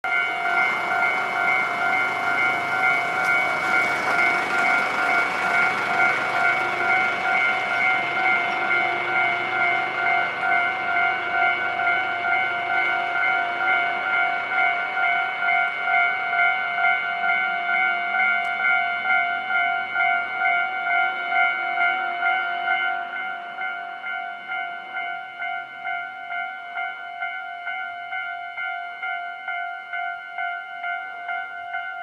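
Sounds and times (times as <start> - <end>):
level-crossing warning bell: 0.0 - 32.0.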